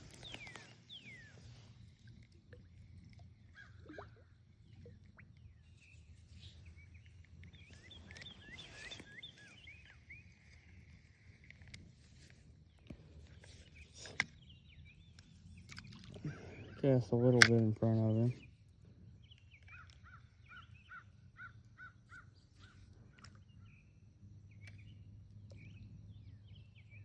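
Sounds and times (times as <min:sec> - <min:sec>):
faint outdoor ambience: 0:00.0 - 0:27.0.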